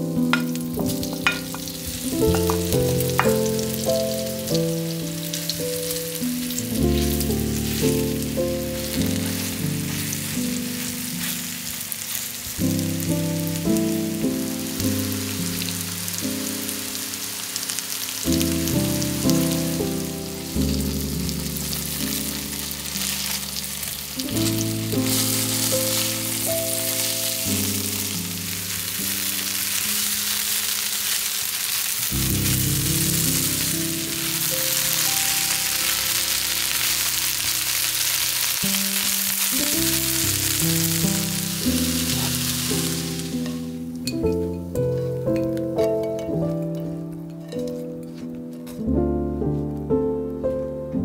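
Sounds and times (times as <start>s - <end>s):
background music: 0.0s - 29.3s, 32.2s - 37.7s, 39.4s - 51.0s
food sizzling in oil: 0.0s - 48.1s.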